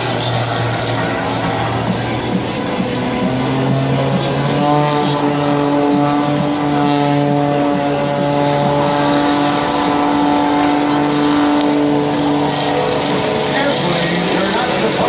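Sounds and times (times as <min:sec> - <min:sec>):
propeller plane engine running: 0:00.0 - 0:15.0.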